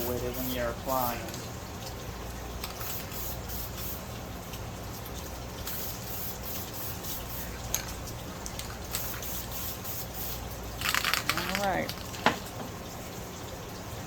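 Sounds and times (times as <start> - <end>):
wet squishing of foam filter: 0.0 - 12.5.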